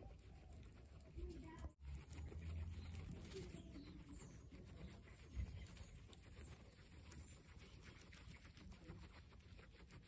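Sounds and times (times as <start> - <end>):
guinea pigs crunching and nibbling: 0.0 - 10.0.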